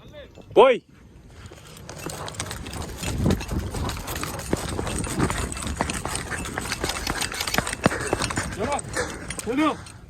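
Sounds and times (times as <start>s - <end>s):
gear rattling and rustling: 1.3s - 10.0s
microphone jostling: 1.3s - 10.0s
running footsteps: 1.3s - 10.0s.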